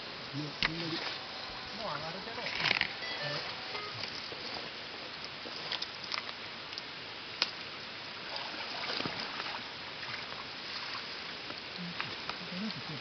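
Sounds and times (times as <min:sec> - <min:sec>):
pond water sloshing and trickling: 0:00.7 - 0:13.0.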